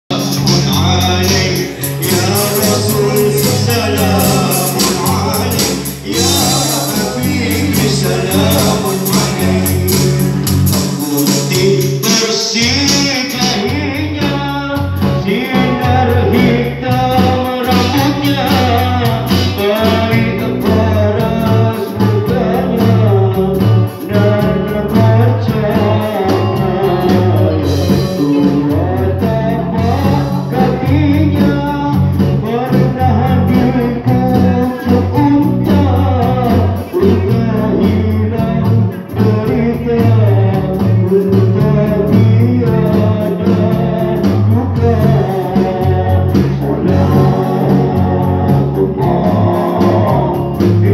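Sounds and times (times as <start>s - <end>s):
man singing: 0.0s - 50.9s
electric guitars: 0.1s - 50.9s
electronic drums: 0.1s - 50.9s.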